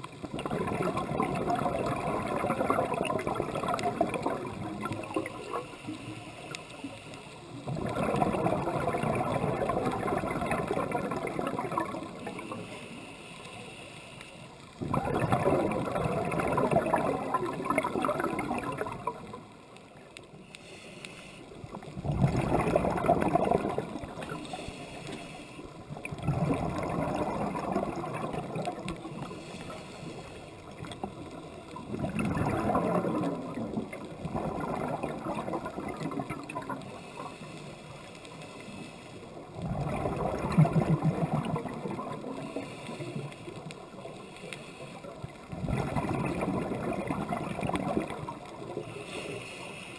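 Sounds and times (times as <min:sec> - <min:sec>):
underwater gurgling bubbles: 0:00.0 - 0:49.9.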